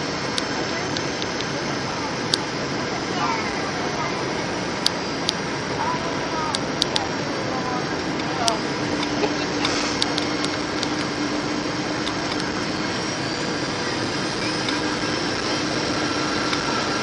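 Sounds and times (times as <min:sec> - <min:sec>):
jet engine cabin rush: 0:00.0 - 0:17.0
steady low hum: 0:00.0 - 0:17.0.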